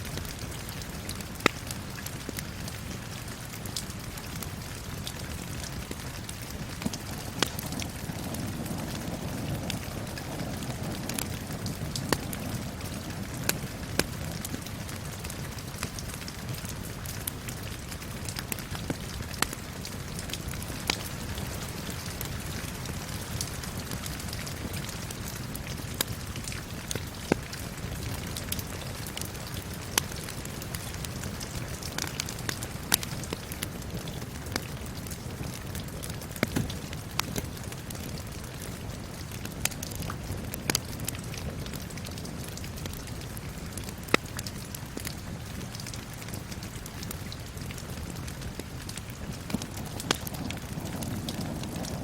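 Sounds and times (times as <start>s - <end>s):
steady rain: 0.0s - 52.0s
wood fire crackling and popping: 0.0s - 52.0s.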